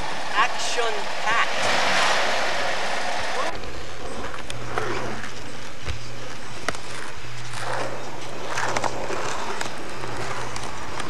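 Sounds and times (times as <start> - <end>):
low hum and hiss: 0.0 - 11.0
skateboard wheels rolling on asphalt: 0.0 - 11.0.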